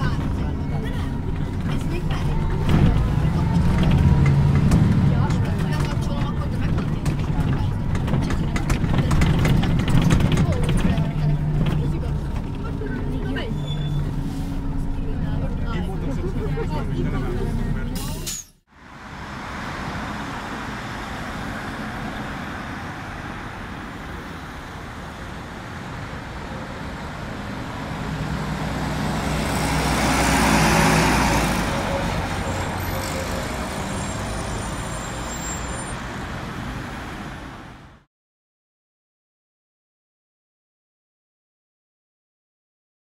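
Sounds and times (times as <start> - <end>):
bus diesel engine passing: 0.0 - 38.1
street traffic: 0.0 - 38.1.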